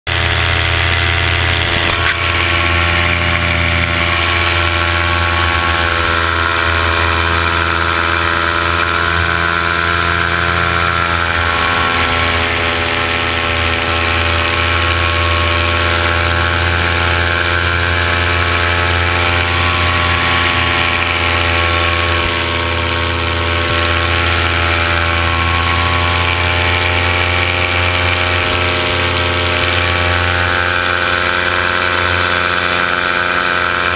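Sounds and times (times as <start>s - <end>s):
drone propellers humming: 0.1s - 33.9s.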